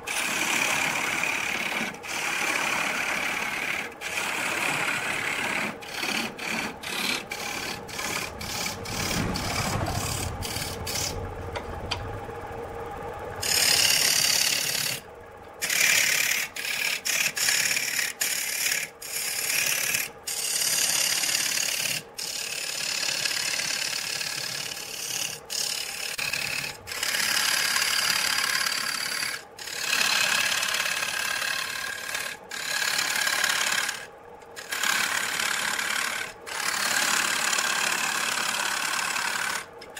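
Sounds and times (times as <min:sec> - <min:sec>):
lathe tool scraping wood: 0:00.0 - 0:12.2, 0:13.4 - 0:15.0, 0:15.6 - 0:39.8.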